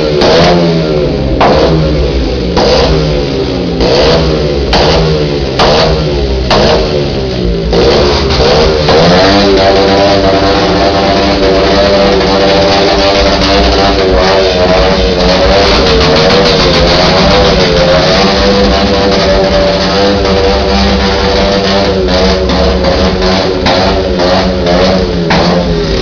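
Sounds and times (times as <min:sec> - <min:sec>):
engine revving high: 0:00.0 - 0:26.0.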